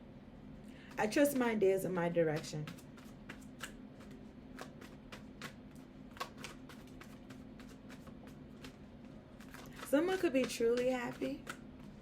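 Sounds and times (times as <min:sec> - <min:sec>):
faint steady hum: 0:00.0 - 0:12.0
cards being shuffled: 0:02.2 - 0:12.0.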